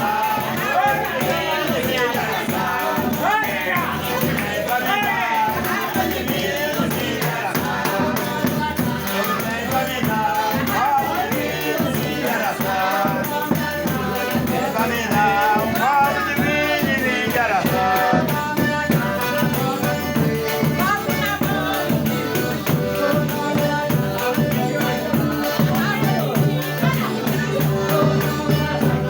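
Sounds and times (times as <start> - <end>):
folk singing voices: 0.0 - 29.0
rattling hand percussion: 0.0 - 29.0.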